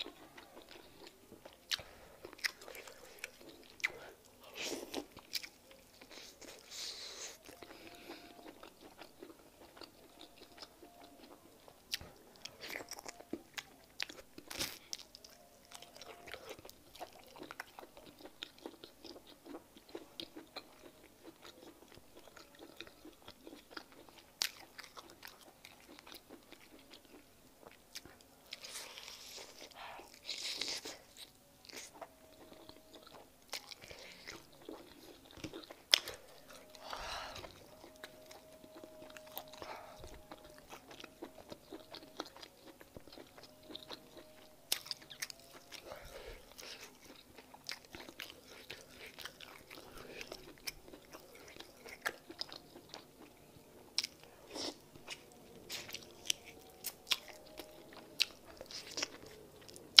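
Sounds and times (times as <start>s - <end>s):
person chewing meat: 0.0s - 60.0s.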